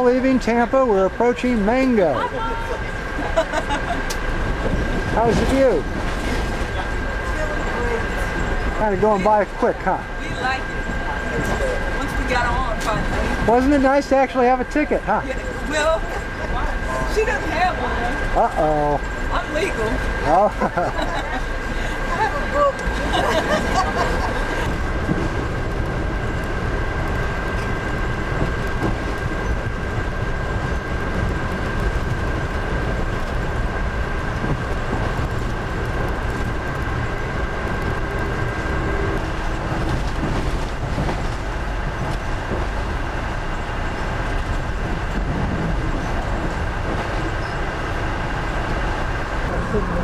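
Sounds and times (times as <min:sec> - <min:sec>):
train wheels rumbling on track: 0:00.0 - 0:50.0.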